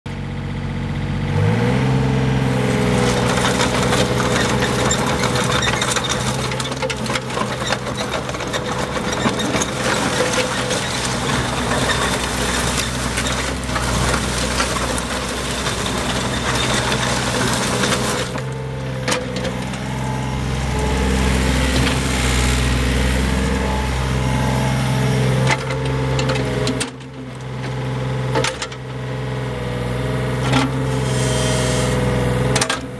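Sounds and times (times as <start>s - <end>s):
excavator diesel engine revving: 0.1s - 32.9s.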